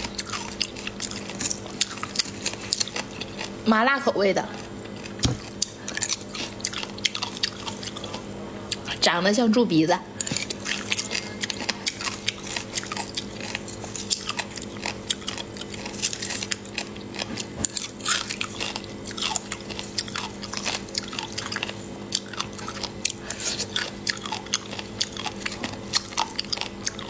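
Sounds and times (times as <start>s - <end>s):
wet chewing and crunching: 0.0s - 3.6s, 4.4s - 9.0s, 10.2s - 27.0s
steady low hum: 0.0s - 27.0s.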